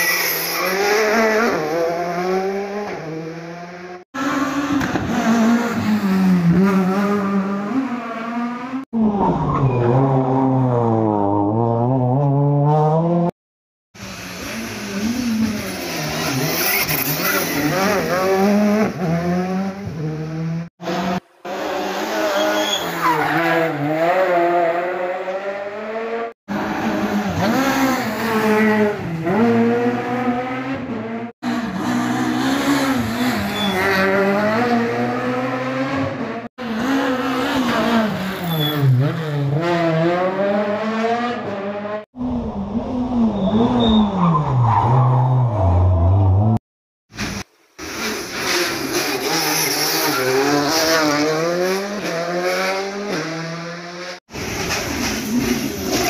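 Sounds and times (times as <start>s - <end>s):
rally car engines revving: 0.0s - 13.3s, 14.0s - 46.6s, 47.8s - 56.0s.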